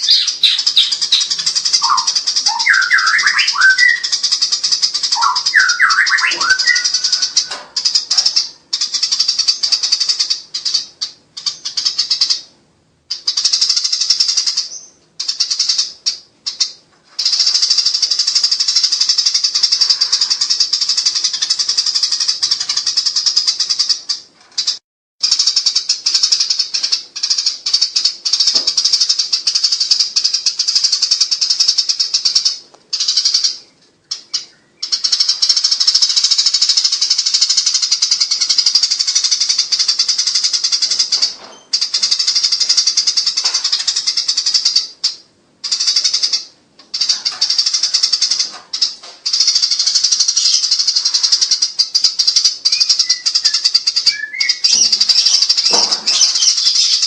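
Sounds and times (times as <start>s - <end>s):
sparrows chattering: 0.0s - 57.0s.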